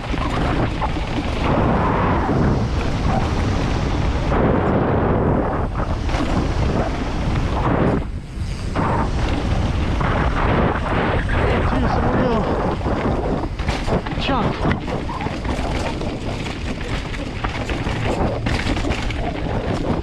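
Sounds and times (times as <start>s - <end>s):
bike tyres rumbling and rattling: 0.0s - 20.0s
wind buffeting microphone: 0.0s - 20.0s.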